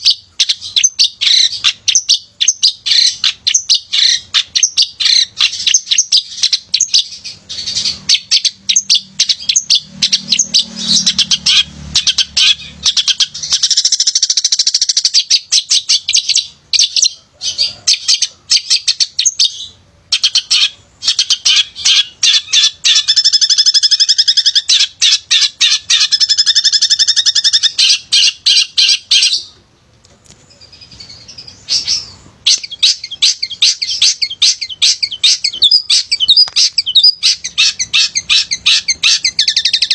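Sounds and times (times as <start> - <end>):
shrike singing chattering trills: 0.0 - 29.6, 30.5 - 39.9.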